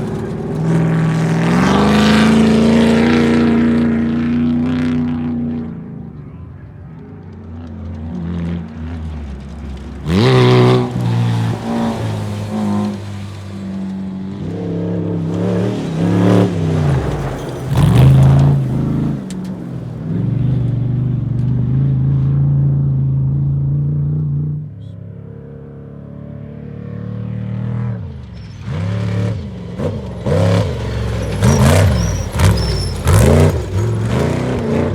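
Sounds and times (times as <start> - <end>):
race vehicle engines revving: 0.0 - 34.9.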